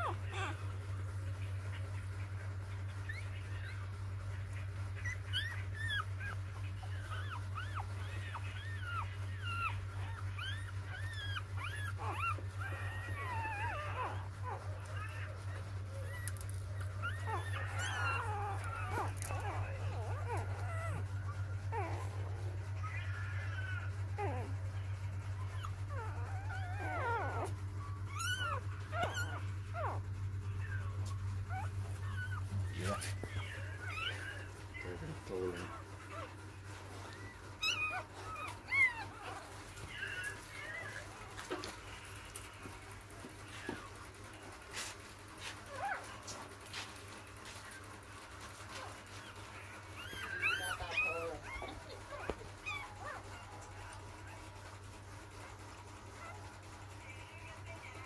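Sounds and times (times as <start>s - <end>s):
puppies whimpering and squeaking: 0.0s - 58.0s.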